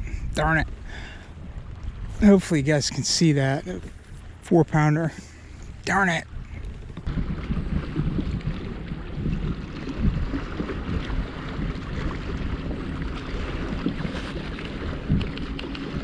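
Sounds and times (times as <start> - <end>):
wind buffeting microphone: 0.0 - 4.5, 5.4 - 16.0
water lapping around kayak: 0.0 - 16.0.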